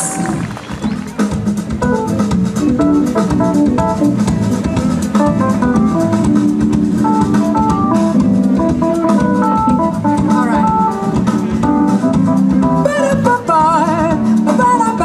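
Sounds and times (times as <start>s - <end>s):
drum kit beat with cymbals: 0.0s - 15.0s
electric bass: 0.0s - 15.0s
keyboard: 0.0s - 15.0s.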